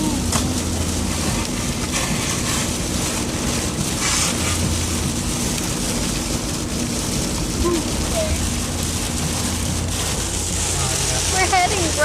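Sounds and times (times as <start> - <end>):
rain: 0.0 - 12.0
wet road noise: 0.0 - 12.0.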